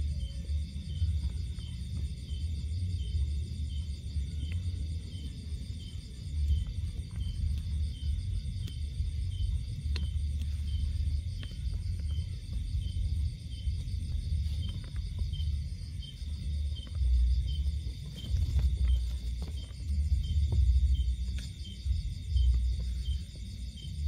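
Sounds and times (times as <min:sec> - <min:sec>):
high insect chirp: 0:00.0 - 0:24.0
low rumble on microphone: 0:00.0 - 0:24.0
pulsing insect trill: 0:00.0 - 0:24.0.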